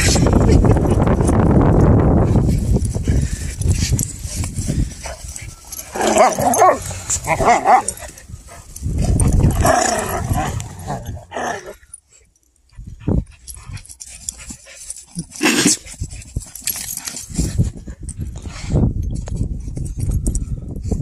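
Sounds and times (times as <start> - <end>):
dogs playing: 0.0 - 18.2.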